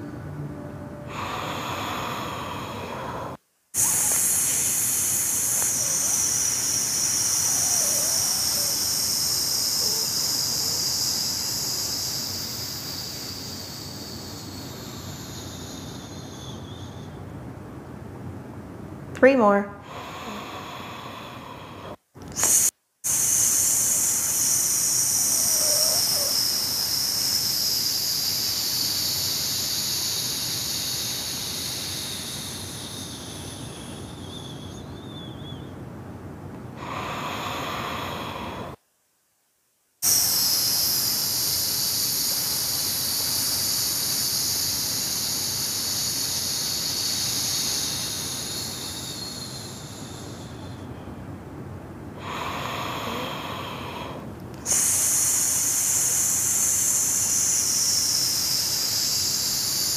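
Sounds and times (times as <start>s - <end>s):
woman inhaling: 1.1s - 17.2s, 19.8s - 35.2s, 36.8s - 38.8s, 40.0s - 51.0s, 52.2s - 59.9s
woman's hissed exhales: 1.1s - 17.2s, 19.8s - 35.2s, 36.8s - 38.8s, 40.0s - 50.9s, 52.2s - 59.9s.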